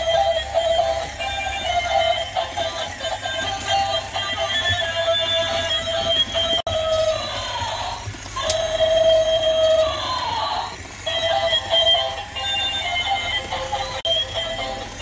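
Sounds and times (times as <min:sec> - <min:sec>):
toy electronic tune: 0:00.0 - 0:15.0.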